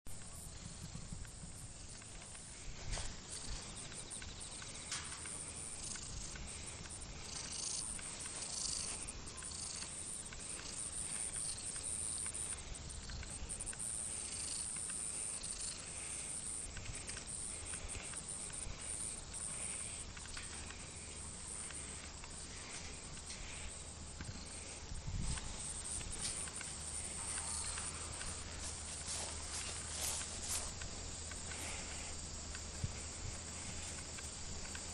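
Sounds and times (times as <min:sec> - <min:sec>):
insects chirping: 0:00.1 - 0:34.9
soft clicks and rustles: 0:00.1 - 0:34.9.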